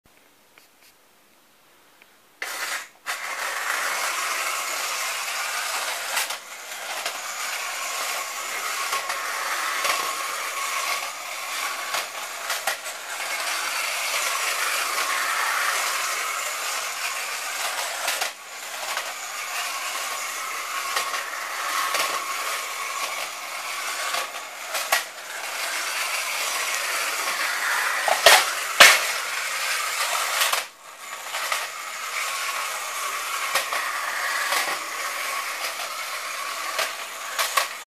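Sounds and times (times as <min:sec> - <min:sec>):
toy train whirring and rattling: 0:02.4 - 0:37.9.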